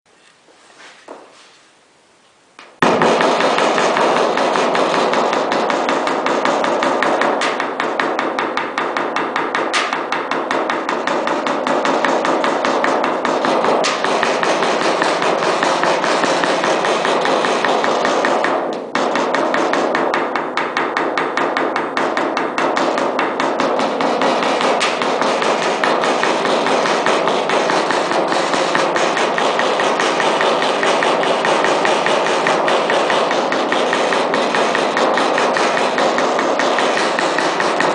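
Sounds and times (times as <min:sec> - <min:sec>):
rapid hammering on metal: 0:02.8 - 0:37.9.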